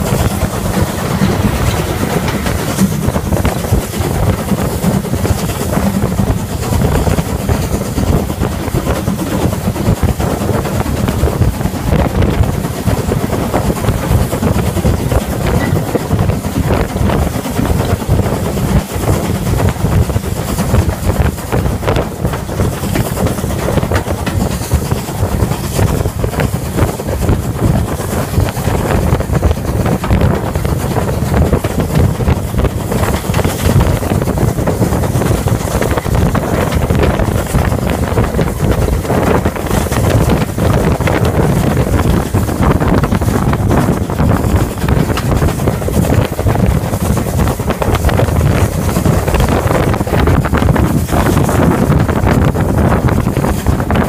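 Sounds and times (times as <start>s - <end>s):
steam locomotive running: 0.0s - 54.0s
wheel and rail noise: 0.0s - 54.0s
wind buffeting microphone: 0.0s - 54.0s.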